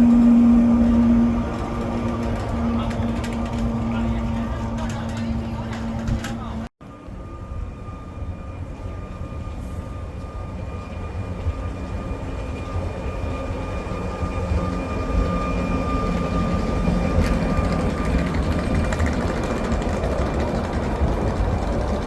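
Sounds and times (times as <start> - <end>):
steady high whine: 0.0 - 22.0
tram rumble: 0.0 - 22.0.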